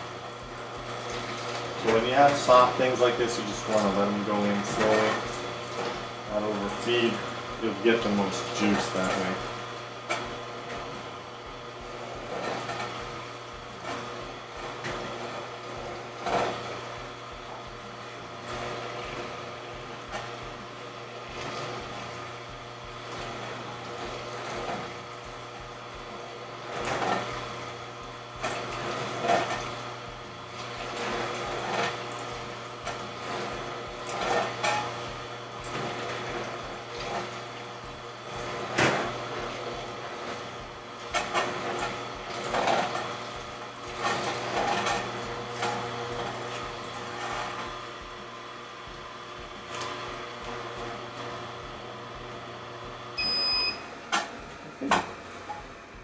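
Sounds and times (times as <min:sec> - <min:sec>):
crunching and knocking in juicer: 0:00.0 - 0:56.0
juicer motor humming: 0:00.0 - 0:56.0.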